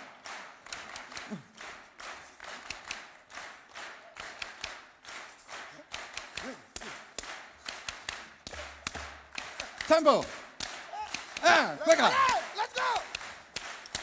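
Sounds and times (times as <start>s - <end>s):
audience clapping a rhythm: 0.0s - 14.0s.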